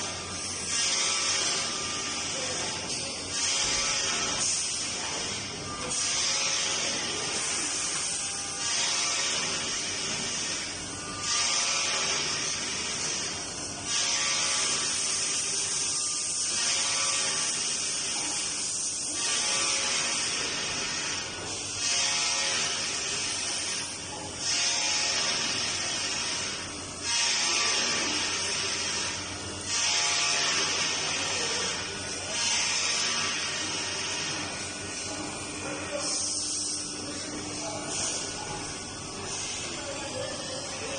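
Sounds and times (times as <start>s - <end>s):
cnc spindle and cutter whine: 0.0s - 40.9s.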